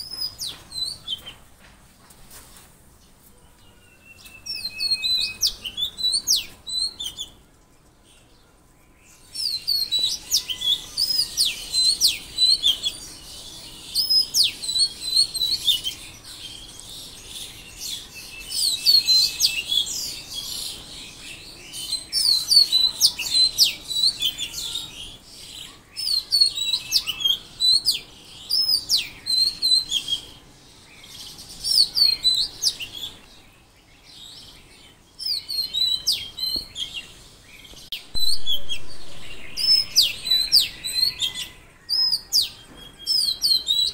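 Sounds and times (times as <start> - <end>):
songbirds chirping and trilling: 0.0 - 43.9.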